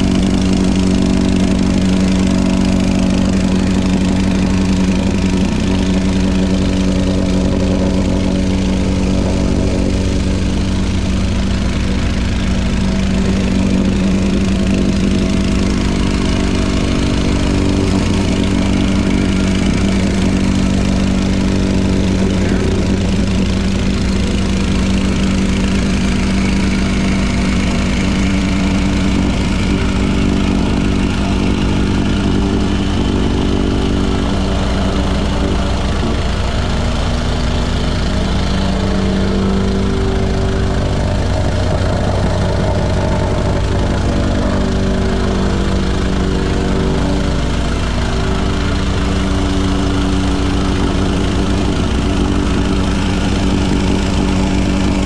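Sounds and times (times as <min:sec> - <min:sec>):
machinery engine running: 0:00.0 - 0:55.0.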